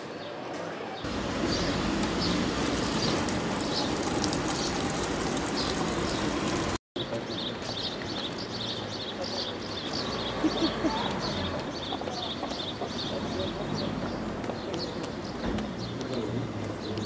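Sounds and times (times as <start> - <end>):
small birds chirping: 1.0 - 17.0.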